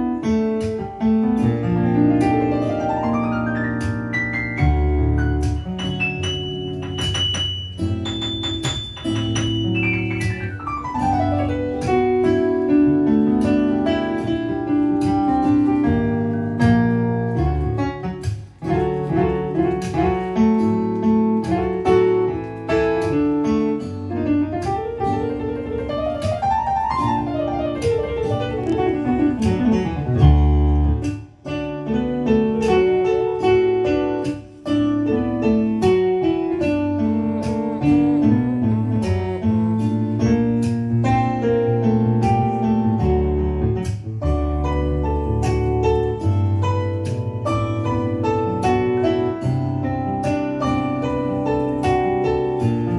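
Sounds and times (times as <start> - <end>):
jazz piano: 0.0 - 52.9.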